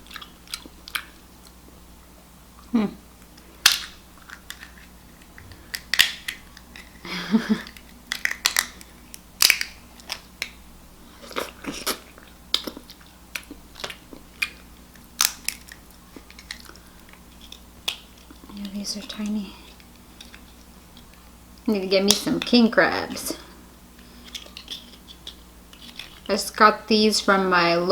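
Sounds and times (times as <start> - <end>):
lobster shells cracking: 0.0 - 1.6, 3.2 - 10.6, 11.4 - 22.6, 23.4 - 26.3
chewing and crunching: 0.0 - 1.7, 2.6 - 21.7, 23.4 - 26.3.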